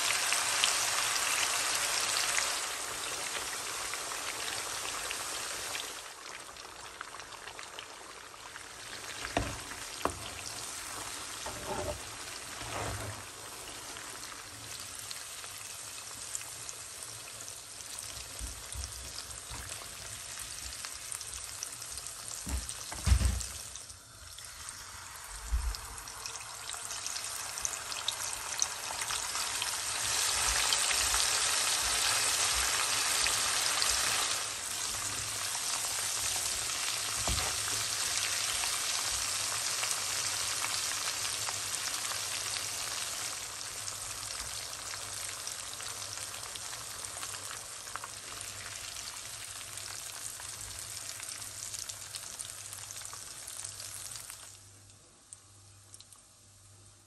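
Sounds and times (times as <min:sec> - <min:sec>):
chicken deep-frying in hot oil: 0:00.0 - 0:57.0.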